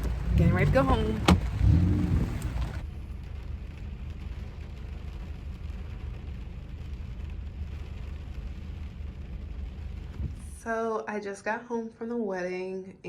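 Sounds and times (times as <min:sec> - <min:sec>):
car engine rumble: 0:00.0 - 0:10.8.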